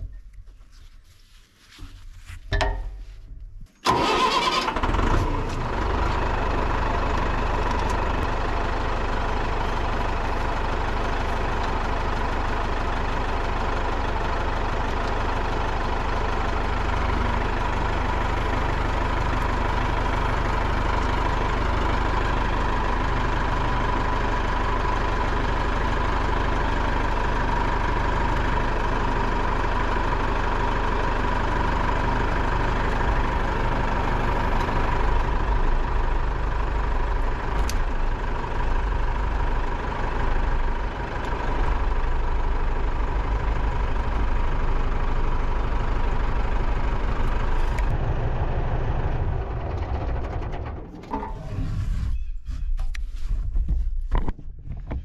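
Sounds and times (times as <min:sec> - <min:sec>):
tractor diesel engine running: 0:01.2 - 0:55.0.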